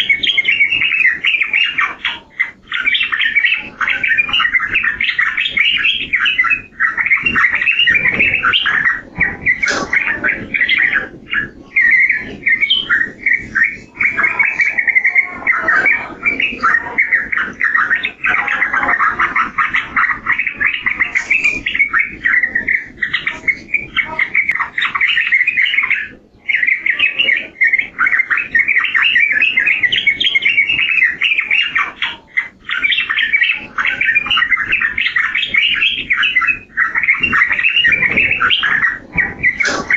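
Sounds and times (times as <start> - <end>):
bird singing warbling song: 0.0 - 39.9.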